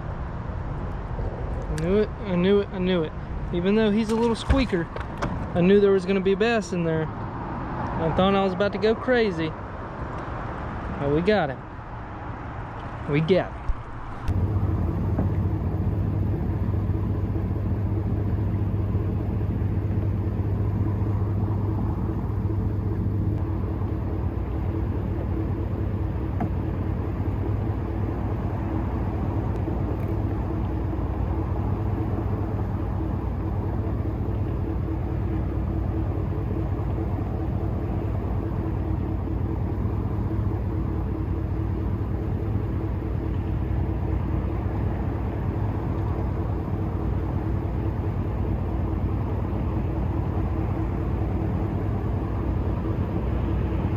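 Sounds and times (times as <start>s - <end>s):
engine drone: 0.0s - 53.9s.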